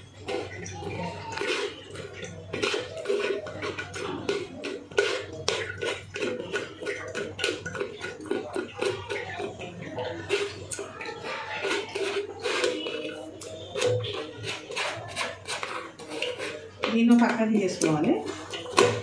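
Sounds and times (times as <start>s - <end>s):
spoon scraping through strainer mesh: 0.0s - 19.0s.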